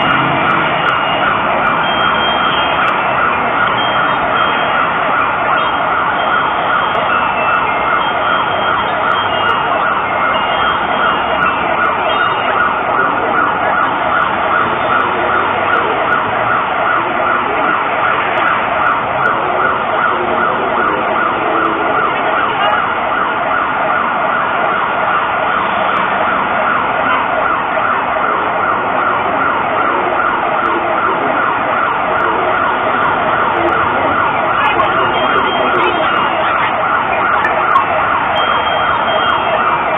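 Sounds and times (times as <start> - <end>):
wailing alert siren over loudspeakers: 0.0 - 39.9.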